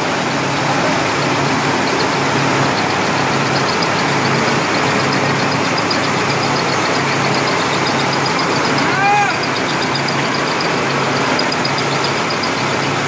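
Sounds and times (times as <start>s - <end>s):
mill machinery running: 0.0s - 13.0s
rice pouring from chute: 0.0s - 13.0s
tractor diesel engine running: 0.0s - 13.0s
light fast ticking: 0.2s - 13.0s.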